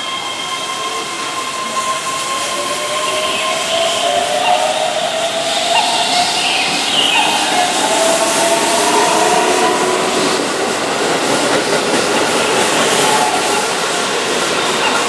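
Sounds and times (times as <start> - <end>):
faint train whine: 0.0 - 15.0
train wheels rumbling on rail: 0.0 - 15.0.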